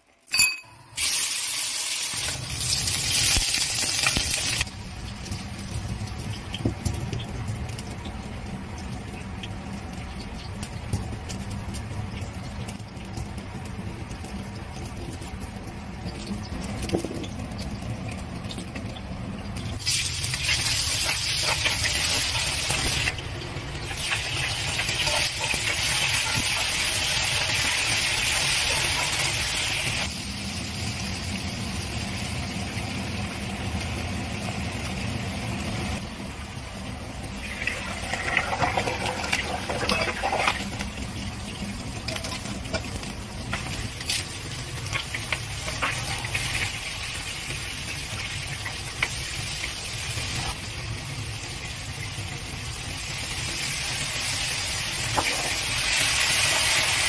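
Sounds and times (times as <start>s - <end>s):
hot oil sizzling: 0.0s - 57.0s.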